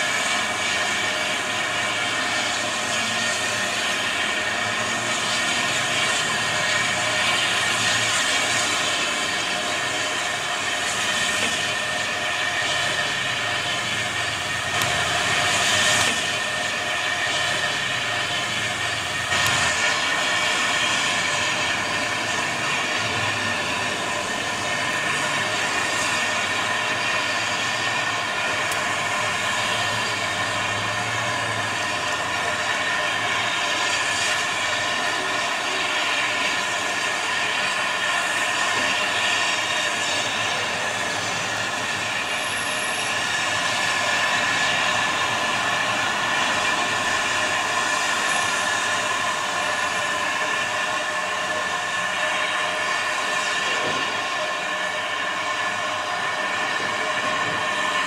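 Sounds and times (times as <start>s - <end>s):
steam hissing from locomotive: 0.0s - 58.0s.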